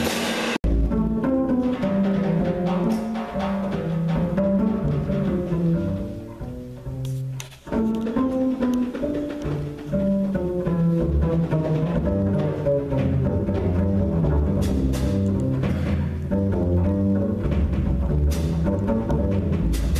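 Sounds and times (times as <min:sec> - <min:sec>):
small-group jazz: 0:00.0 - 0:19.9
plucked double bass: 0:00.6 - 0:19.9.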